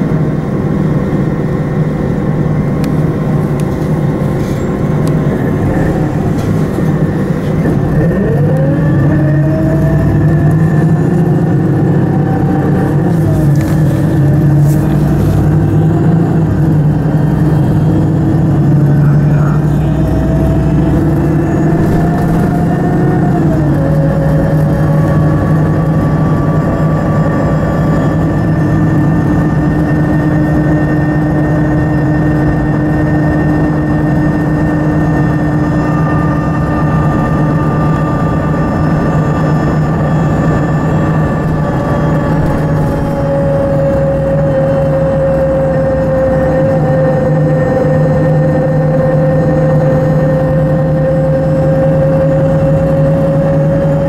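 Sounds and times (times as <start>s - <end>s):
bus engine and drivetrain: 0.0s - 54.0s.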